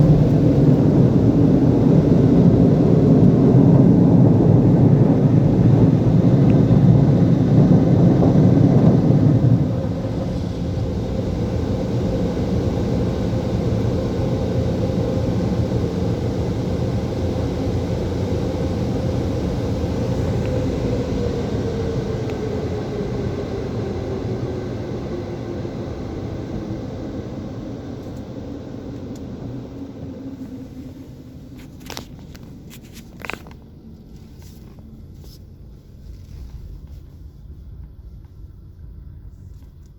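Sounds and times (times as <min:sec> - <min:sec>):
car wash dryer blowers: 0:00.0 - 0:39.8.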